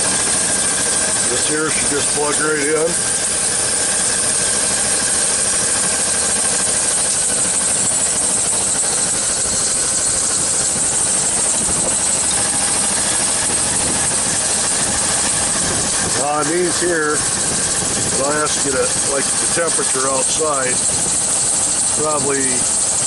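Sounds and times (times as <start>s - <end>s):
air conditioning running: 0.0s - 23.0s
car engine idling: 0.0s - 23.0s.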